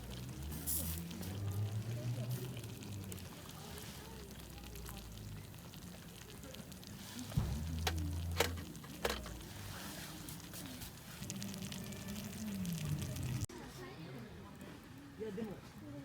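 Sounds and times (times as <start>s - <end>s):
food sizzling: 0.0s - 13.5s.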